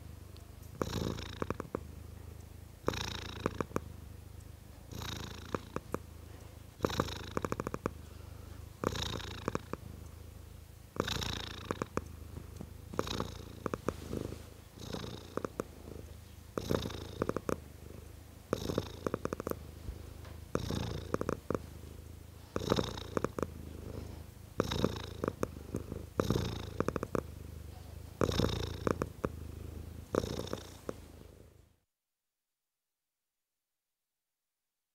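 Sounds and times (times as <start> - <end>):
cat purring: 0.0 - 31.8.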